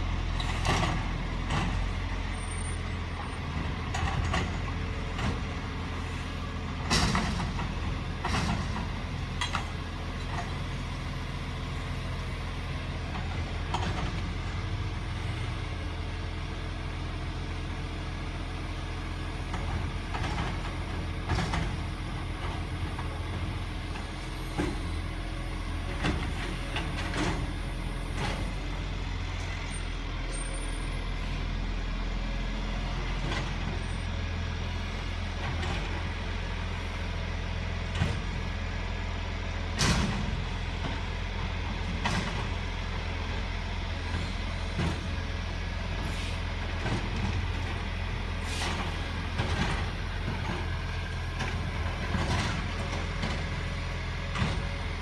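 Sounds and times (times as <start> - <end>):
distant truck diesel engine: 0.0 - 55.0.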